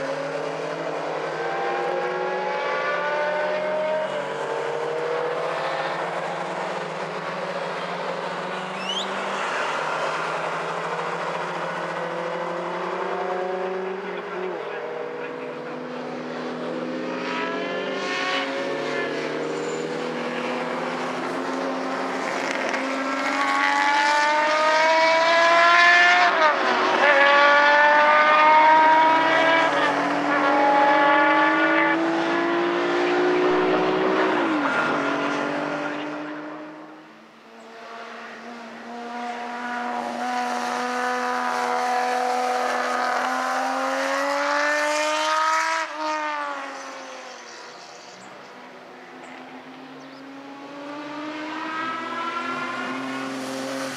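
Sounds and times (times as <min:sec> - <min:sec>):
racing car engines accelerating: 0:00.0 - 0:53.9.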